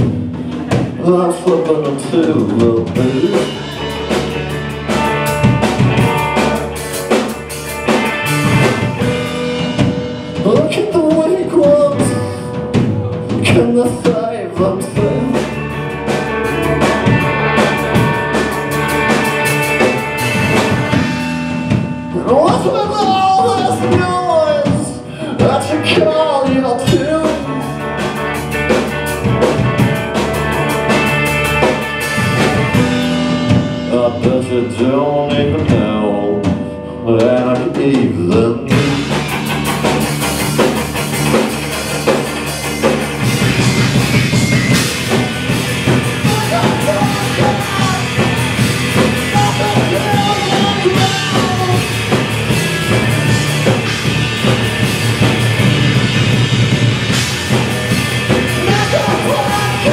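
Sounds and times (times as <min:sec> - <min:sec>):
lead singer: 0:00.0 - 0:40.3, 0:42.0 - 0:59.9
bass guitar: 0:00.0 - 0:59.9
drum kit: 0:00.0 - 0:59.9
electric guitar: 0:00.0 - 0:59.9.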